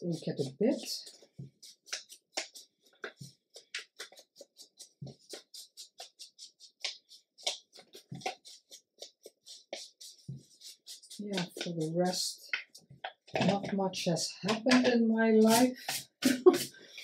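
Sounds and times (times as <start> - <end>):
ink tool rubbing on paper: 0.0 - 13.9, 14.5 - 16.8.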